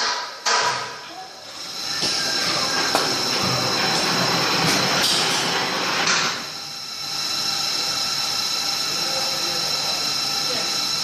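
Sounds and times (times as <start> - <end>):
milling machine whine: 1.1 - 11.0.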